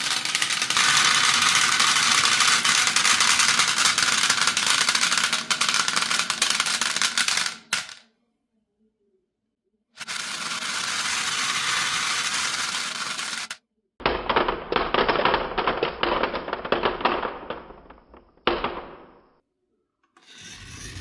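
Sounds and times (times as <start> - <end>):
marbles clattering together: 0.0 - 8.0, 10.0 - 19.3
marbles rolling on wooden run: 0.0 - 8.0, 10.0 - 19.3.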